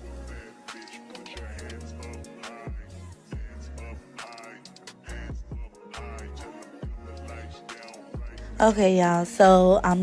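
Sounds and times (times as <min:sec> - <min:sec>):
hip-hop background music: 0:00.0 - 0:10.0.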